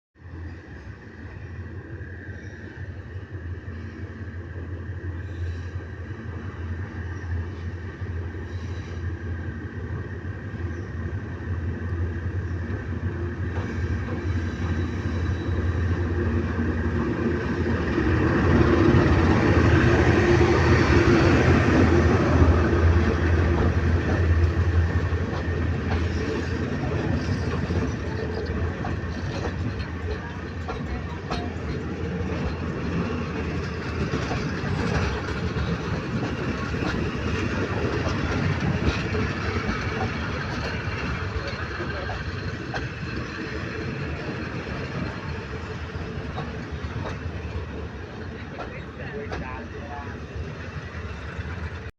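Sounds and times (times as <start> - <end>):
diesel locomotive engine hum: 0.2 - 51.9
train rail rumble: 0.2 - 51.9.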